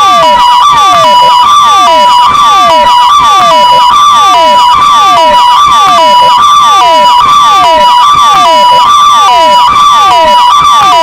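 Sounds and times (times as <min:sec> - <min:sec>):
hi-lo electronic siren: 0:00.0 - 0:11.0
rapid falling siren sweeps: 0:00.0 - 0:11.0.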